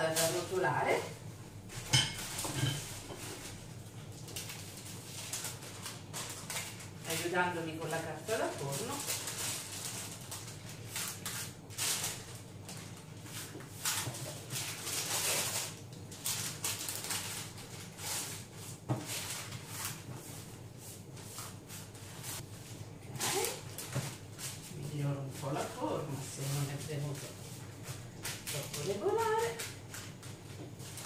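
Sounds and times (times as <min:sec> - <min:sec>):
baking paper rustling: 0:00.0 - 0:31.0.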